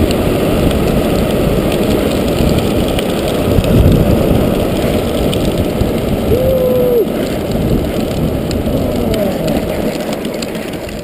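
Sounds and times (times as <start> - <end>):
plastic wheels rumbling on asphalt: 0.0 - 11.0.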